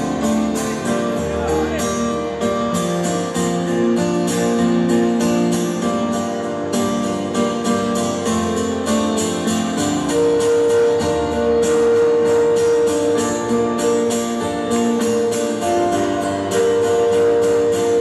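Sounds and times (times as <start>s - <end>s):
guitar: 0.0s - 18.0s
keyboard: 0.0s - 18.0s.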